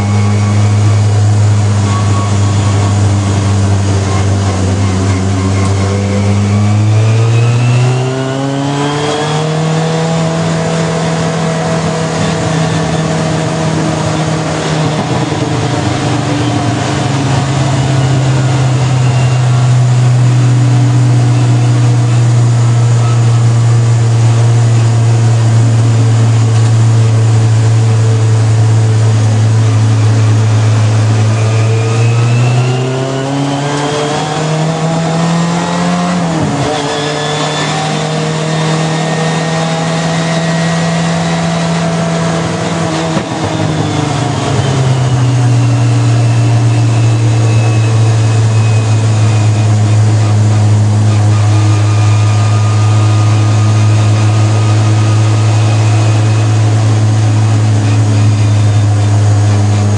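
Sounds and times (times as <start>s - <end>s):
race car engine from inside: 0.0s - 59.9s.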